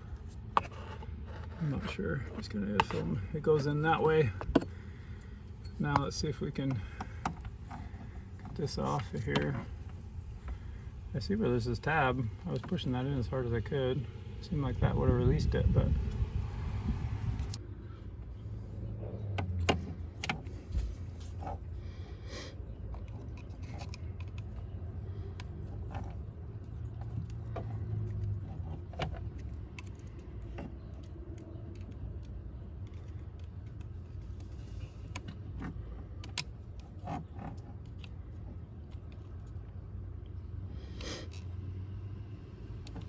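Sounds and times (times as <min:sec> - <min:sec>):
low steady rumble: 0:00.0 - 0:43.0.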